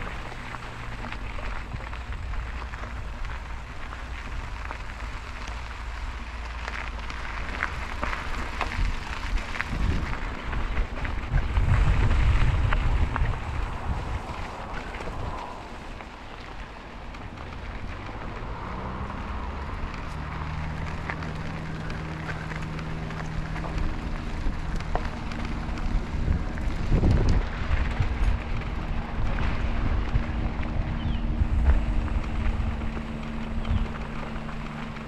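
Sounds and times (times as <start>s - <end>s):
low engine hum: 0.0s - 35.0s
wind buffeting microphone: 0.0s - 35.0s.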